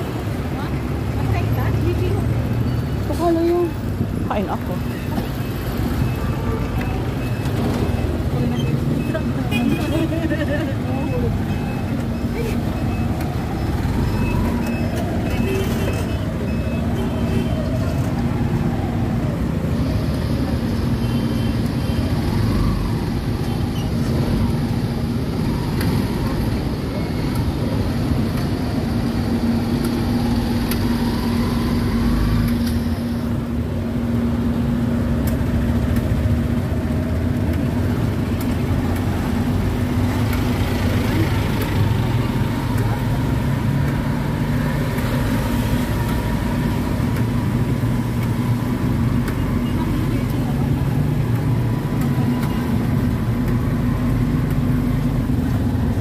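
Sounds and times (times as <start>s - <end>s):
road and traffic noise: 0.0s - 56.0s.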